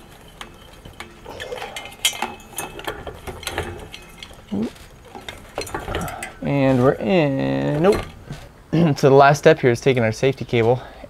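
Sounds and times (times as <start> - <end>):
metal fan parts clicking: 0.0 - 10.8.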